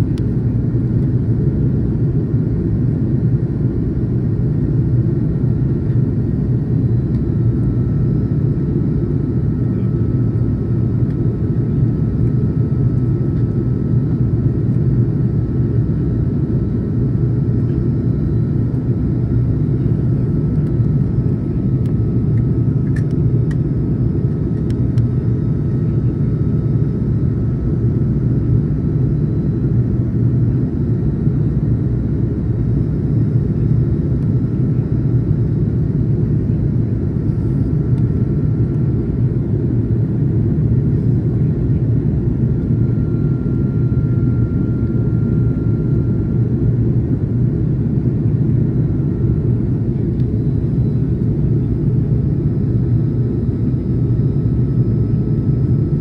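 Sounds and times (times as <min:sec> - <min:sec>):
aircraft cabin engine rumble: 0:00.0 - 0:56.0
faint steady whine: 0:00.0 - 0:56.0.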